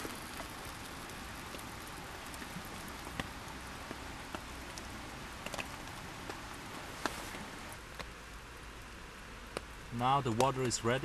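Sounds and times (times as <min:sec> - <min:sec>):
light rain hissing: 0:00.0 - 0:11.0
raindrops ticking: 0:00.0 - 0:11.0.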